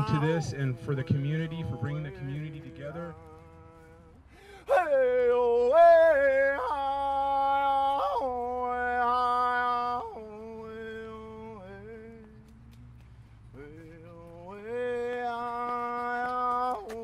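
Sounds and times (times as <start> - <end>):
man singing wordless chant: 0.0 - 17.0.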